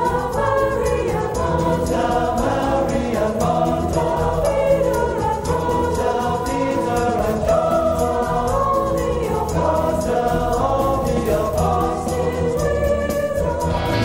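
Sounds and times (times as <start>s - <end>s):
choir singing with accompaniment: 0.0s - 14.0s.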